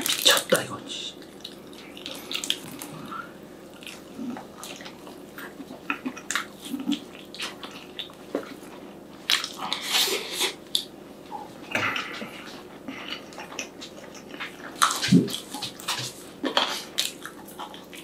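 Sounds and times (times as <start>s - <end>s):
person chewing food: 1.1s - 18.0s.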